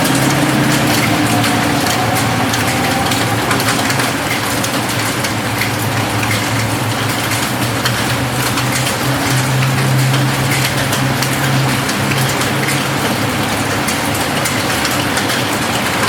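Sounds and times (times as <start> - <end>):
rain falling on a roof: 0.0 - 16.0.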